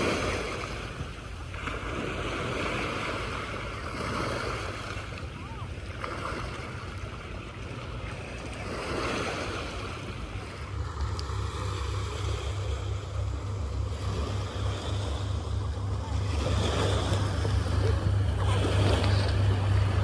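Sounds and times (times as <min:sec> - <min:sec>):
low steady rumble: 0:00.0 - 0:20.0
waves lapping on pebbly shore: 0:00.0 - 0:20.0.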